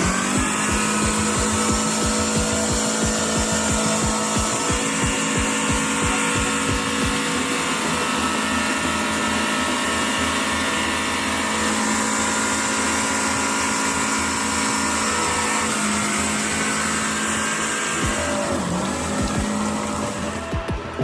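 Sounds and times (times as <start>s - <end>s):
heavy truck engine running: 0.0s - 21.0s
mechanical whine: 0.0s - 21.0s.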